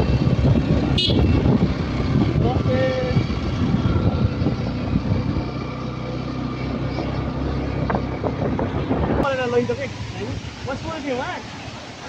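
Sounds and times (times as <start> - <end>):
motorcycle engine running: 0.0 - 10.9
wind buffeting microphone: 0.0 - 11.0.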